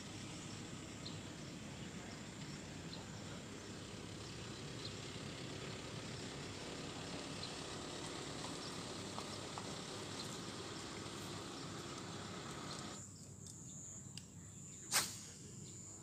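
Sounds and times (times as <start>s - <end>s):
crickets buzzing: 0.0s - 16.0s
outdoor background noise: 0.0s - 16.0s.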